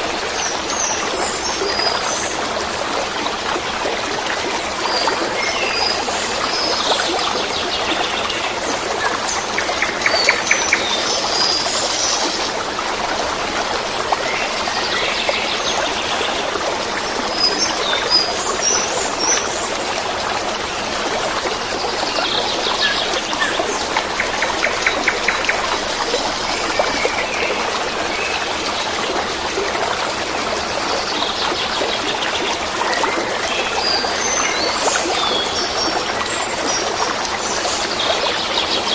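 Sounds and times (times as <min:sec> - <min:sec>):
running water babbling: 0:00.0 - 0:38.9.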